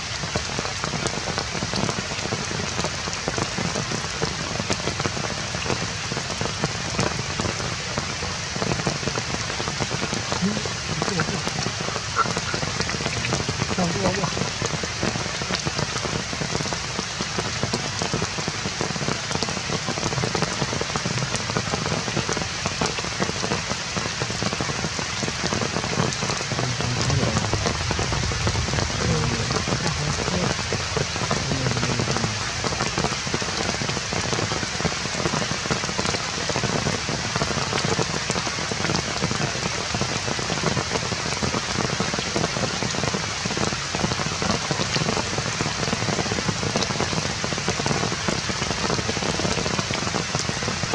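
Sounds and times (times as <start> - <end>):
steady rain patter: 0.0 - 50.9.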